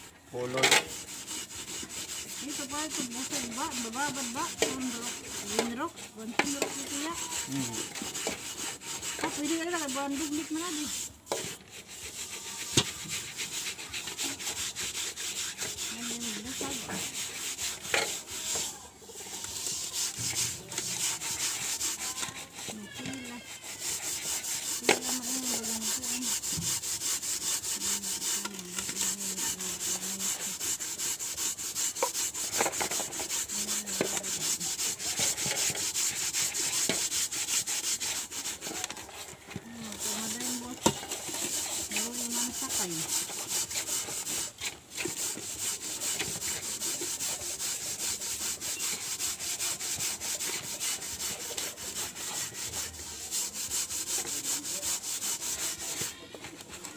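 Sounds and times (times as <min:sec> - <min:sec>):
gritty scouring of metal pot: 0:00.0 - 0:56.9.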